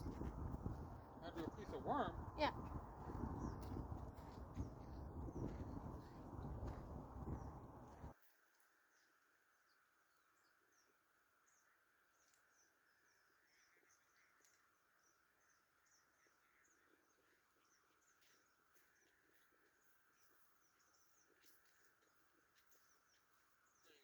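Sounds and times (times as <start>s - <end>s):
small birds chirping: 0.0s - 8.1s, 11.5s - 24.0s.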